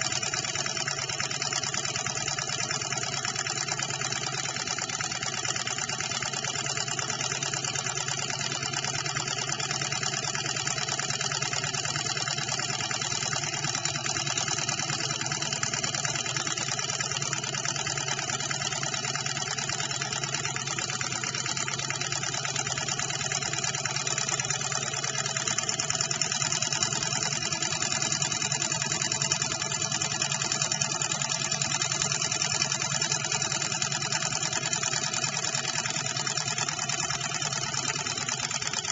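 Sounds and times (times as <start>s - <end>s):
stirling engine mechanical clatter: 0.0s - 38.9s.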